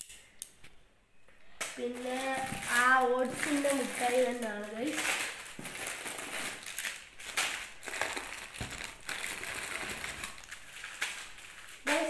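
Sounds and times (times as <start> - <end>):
plastic sweet wrappers crinkling: 1.5 - 12.0.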